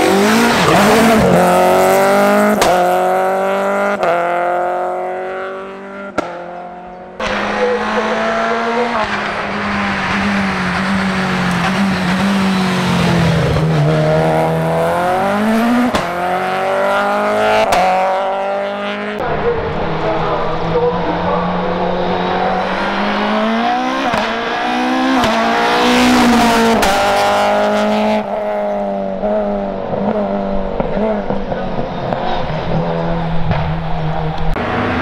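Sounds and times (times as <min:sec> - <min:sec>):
race car engine at high revs: 0:00.0 - 0:35.0.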